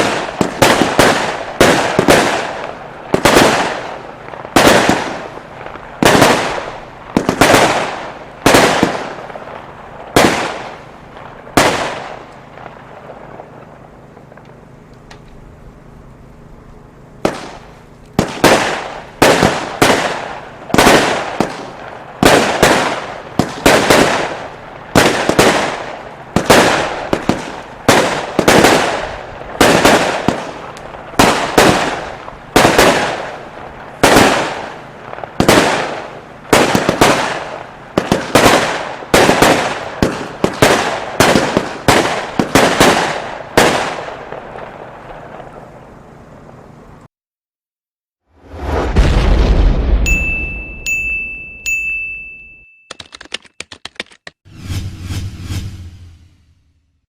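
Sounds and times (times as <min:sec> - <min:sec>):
firework loud reports: 0:00.0 - 0:47.0, 0:48.3 - 0:50.8.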